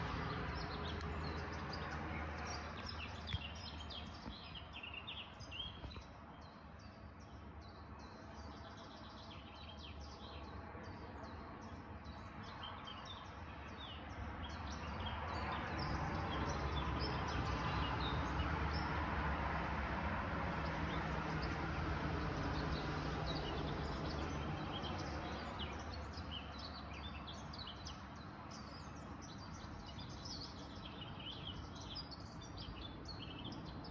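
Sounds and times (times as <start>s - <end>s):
small birds chirping: 0.0s - 18.9s, 22.3s - 33.9s.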